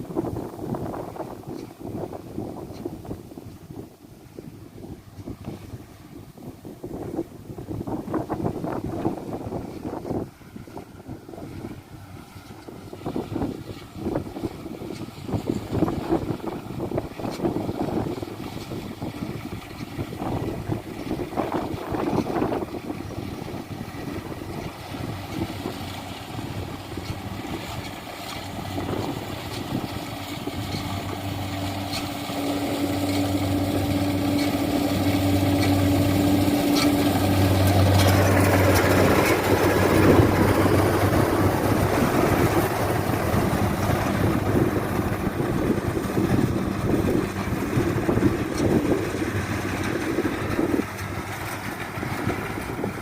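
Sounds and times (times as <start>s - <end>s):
combine harvester engine running: 8.0s - 53.0s.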